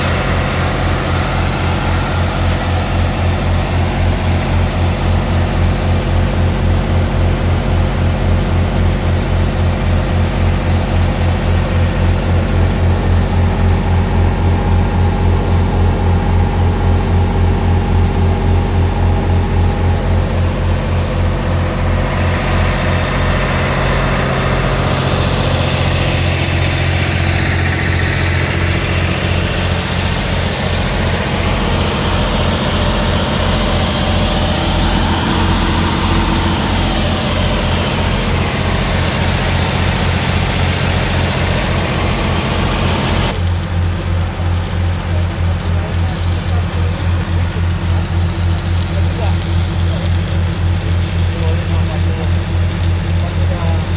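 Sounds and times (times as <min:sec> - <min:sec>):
diesel generator engine running: 0:00.0 - 0:53.9.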